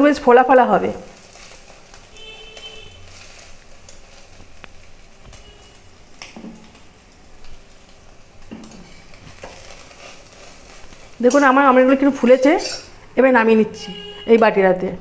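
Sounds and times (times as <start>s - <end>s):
omelet sizzling in oil: 0.0s - 13.2s.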